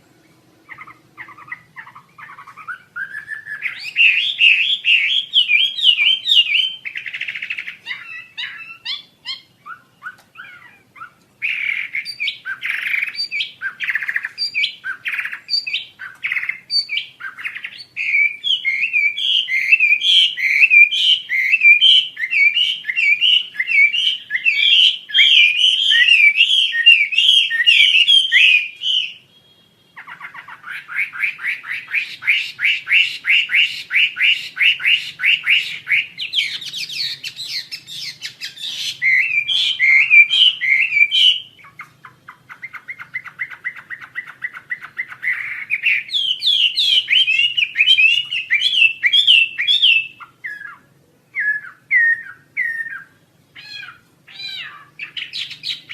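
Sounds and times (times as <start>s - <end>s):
songbird chirping: 0.0s - 55.9s
songbird trilling: 0.0s - 55.9s.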